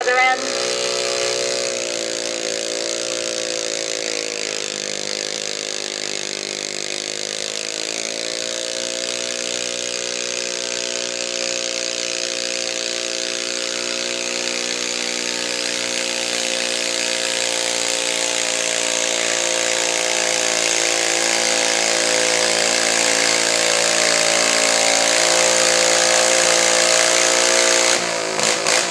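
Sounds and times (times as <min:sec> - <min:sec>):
tractor engine running hard: 0:00.0 - 0:28.9.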